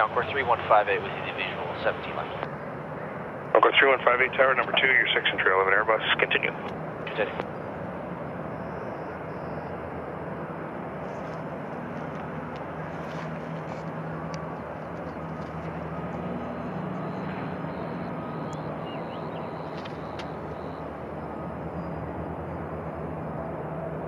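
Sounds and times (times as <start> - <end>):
aircraft engines rumbling: 0.0 - 24.0.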